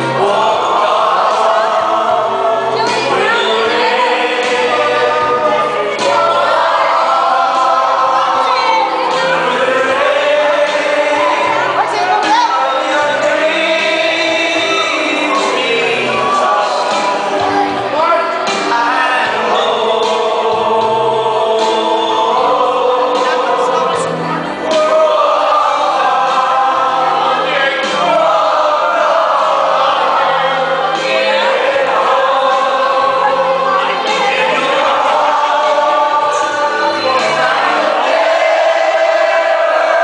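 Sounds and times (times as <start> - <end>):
crowd singing along: 0.0 - 40.0
loud music: 0.0 - 40.0.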